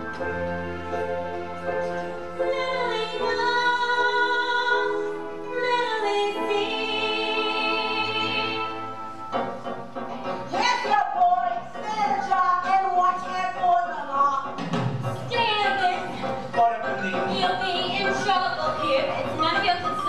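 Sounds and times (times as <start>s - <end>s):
stage musical singing: 2.2s - 9.3s, 10.4s - 20.0s.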